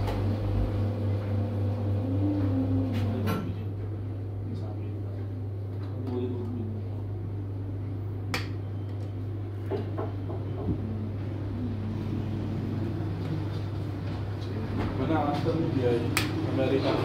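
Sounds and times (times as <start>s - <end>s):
equipment humming: 0.0s - 17.0s.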